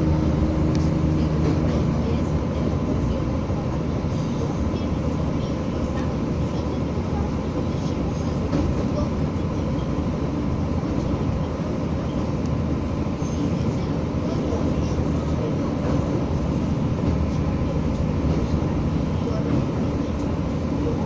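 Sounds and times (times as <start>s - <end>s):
railcar rumbling on rails: 0.0s - 21.0s.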